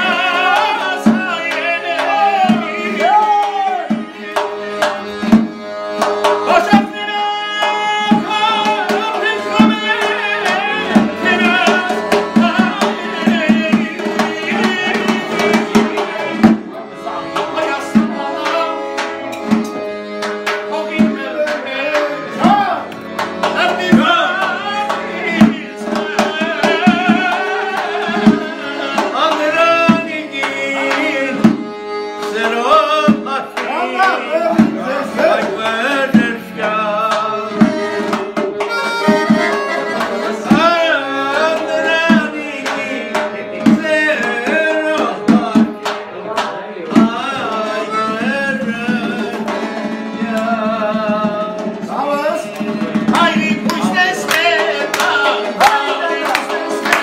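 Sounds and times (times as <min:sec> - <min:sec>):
accordion melody: 0:00.0 - 0:57.0
steady percussive beat: 0:00.0 - 0:57.0.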